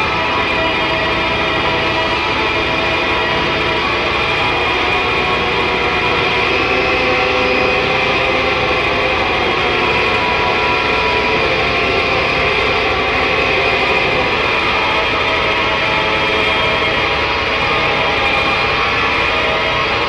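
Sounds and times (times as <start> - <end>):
noise music drone: 0.0 - 20.0.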